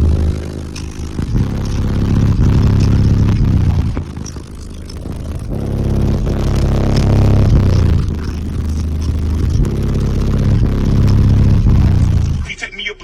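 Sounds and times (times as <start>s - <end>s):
subwoofers playing deep bass: 0.0s - 12.5s
vehicle body buzzing and rattling: 0.0s - 12.5s.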